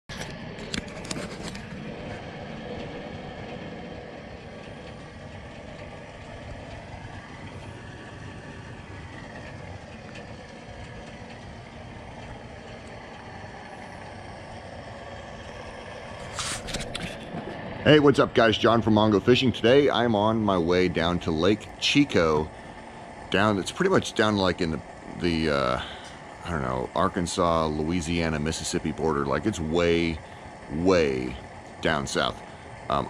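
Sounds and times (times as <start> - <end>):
vehicle engines rumbling: 0.0 - 33.0.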